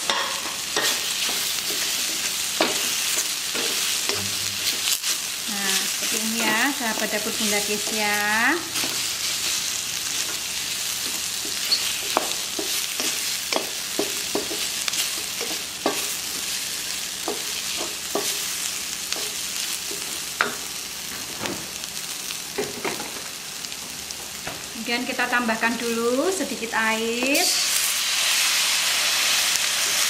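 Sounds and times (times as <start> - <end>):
spice paste sizzling in hot oil: 0.0 - 30.0.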